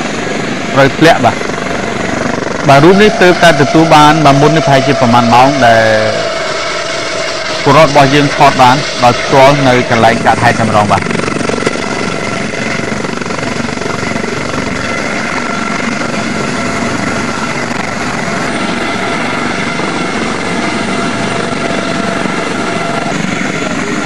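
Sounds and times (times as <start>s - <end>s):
helicopter rotor and turbine whine: 0.0s - 24.0s.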